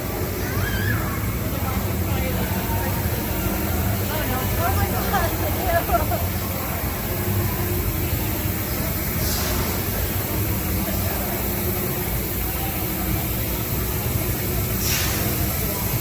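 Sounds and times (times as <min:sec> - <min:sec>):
indistinct voices: 0:00.0 - 0:16.0.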